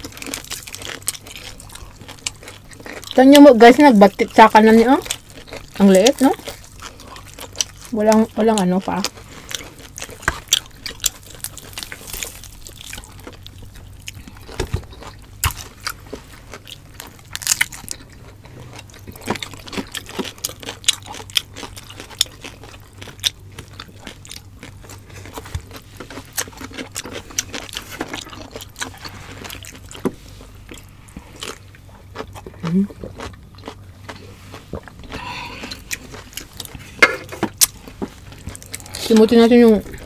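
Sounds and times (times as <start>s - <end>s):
people chewing: 0.0s - 40.0s.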